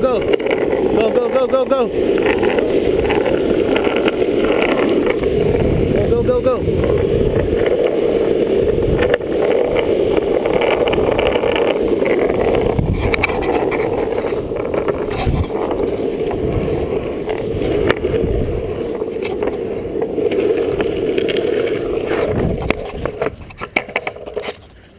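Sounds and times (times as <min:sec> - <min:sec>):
longboard wheels rolling on asphalt: 0:00.0 - 0:24.9.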